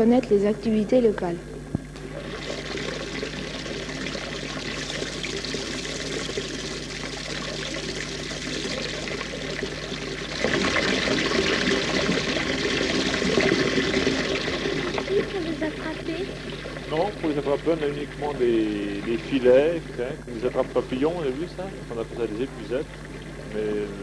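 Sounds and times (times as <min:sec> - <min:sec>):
water pouring into pond: 0:02.0 - 0:24.0.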